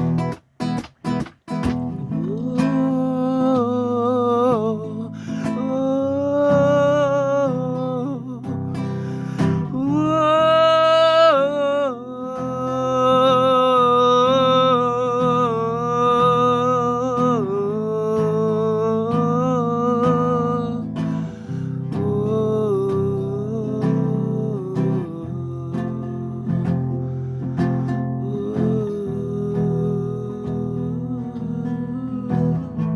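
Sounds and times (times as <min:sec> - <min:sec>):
acoustic guitar chords: 0:00.0 - 0:32.9
wordless vocal melody: 0:01.7 - 0:32.9.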